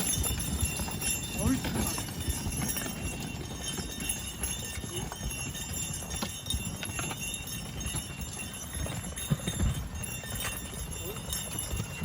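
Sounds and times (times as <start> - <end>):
harness gear clinking: 0.0 - 12.0
horse hoof steps: 0.0 - 12.0.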